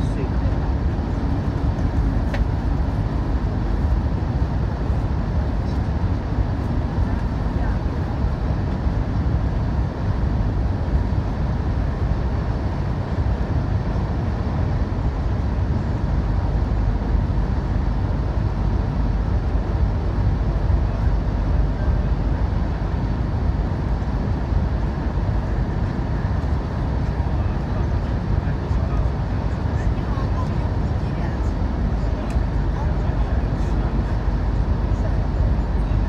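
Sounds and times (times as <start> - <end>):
train running low noise: 0.0 - 36.0.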